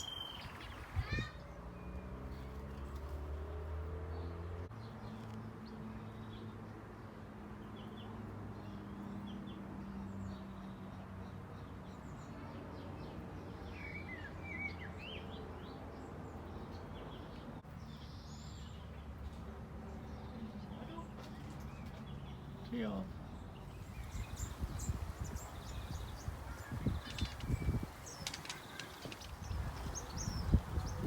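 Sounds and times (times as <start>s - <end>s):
small birds chirping: 0.0s - 3.2s, 7.7s - 31.0s.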